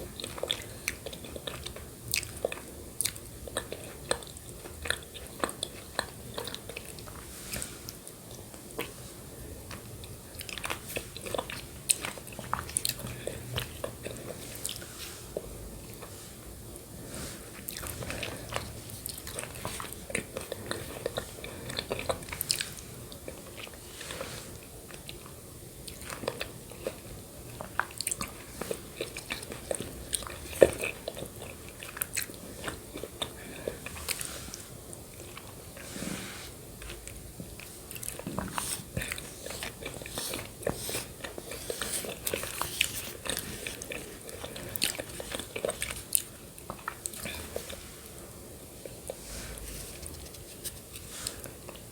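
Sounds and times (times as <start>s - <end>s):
mouth sounds eating and chewing: 0.0s - 51.9s.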